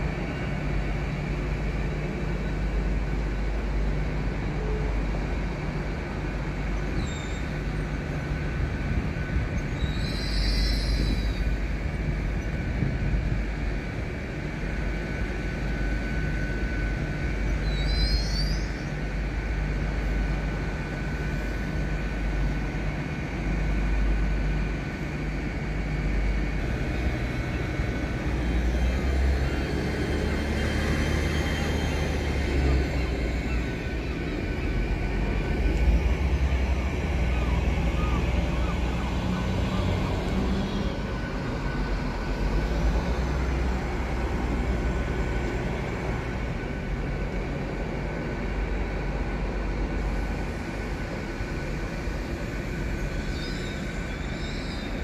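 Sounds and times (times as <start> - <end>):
train diesel engine rumble: 0.0 - 55.0.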